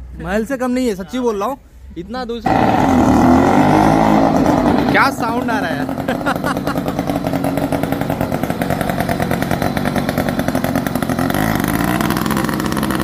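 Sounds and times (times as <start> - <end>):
small petrol engine buzzing: 2.5 - 13.0.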